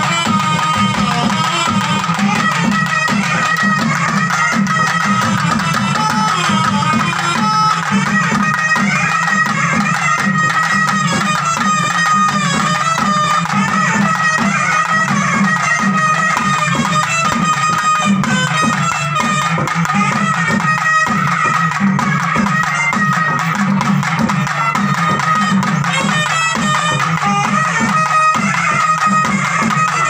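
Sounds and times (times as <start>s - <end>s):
steady drumbeats: 0.0s - 30.0s
wind instrument long high notes: 0.0s - 30.0s.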